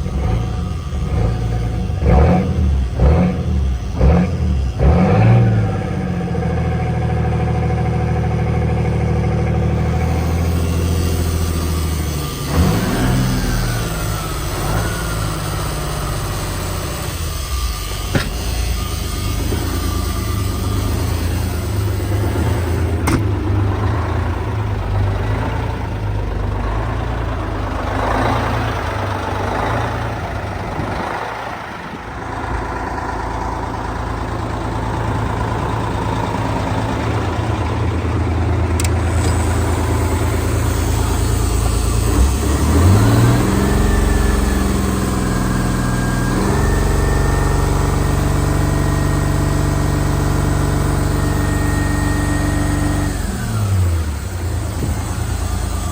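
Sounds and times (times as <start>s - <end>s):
diesel truck engine idling and revving: 0.0s - 55.9s.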